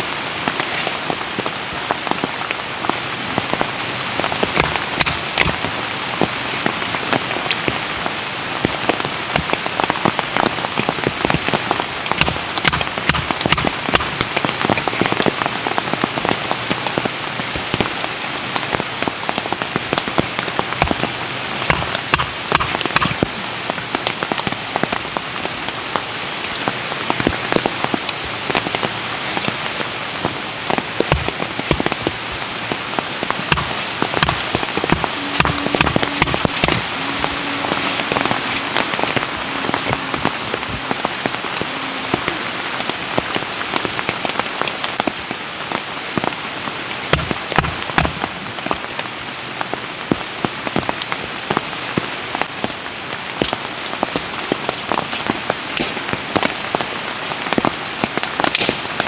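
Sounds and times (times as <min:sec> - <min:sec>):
raindrops ticking on a surface: 0:00.0 - 0:59.0
steady rainstorm: 0:00.0 - 0:59.0.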